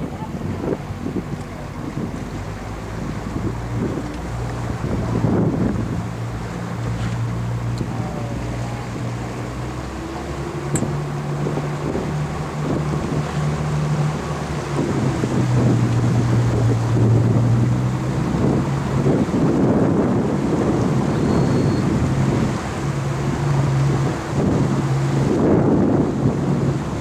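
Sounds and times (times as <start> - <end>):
engine humming: 0.0 - 27.0
wind rumbling on microphone: 0.0 - 27.0.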